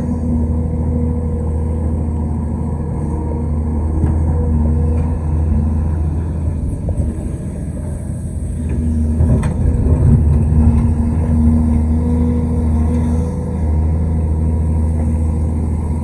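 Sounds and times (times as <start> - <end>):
excavator diesel engine drone: 0.0 - 16.0.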